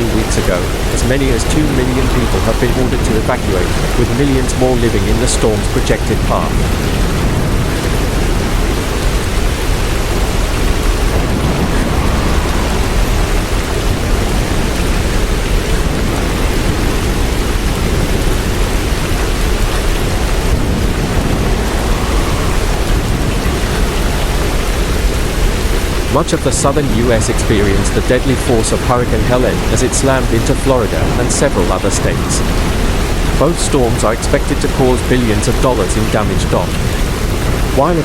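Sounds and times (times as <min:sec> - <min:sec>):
heavy rain: 0:00.0 - 0:38.0
hurricane wind: 0:00.0 - 0:38.0.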